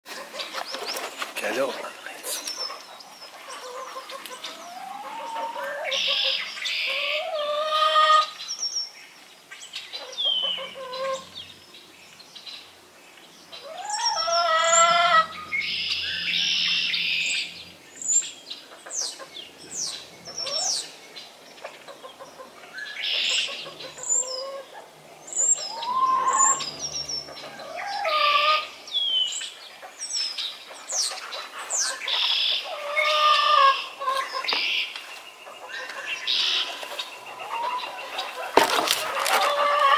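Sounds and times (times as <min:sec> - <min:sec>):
hens calling: 0:00.1 - 0:08.4, 0:09.9 - 0:11.4, 0:13.5 - 0:17.6, 0:21.6 - 0:39.9
small birds chirping: 0:00.2 - 0:39.9.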